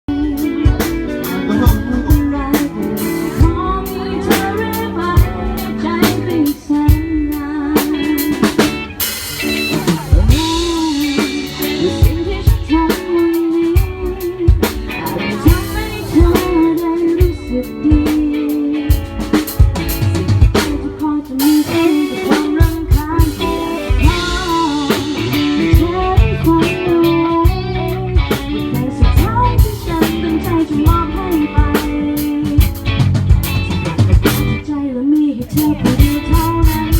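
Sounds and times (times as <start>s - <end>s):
live band playing: 0.0s - 36.9s.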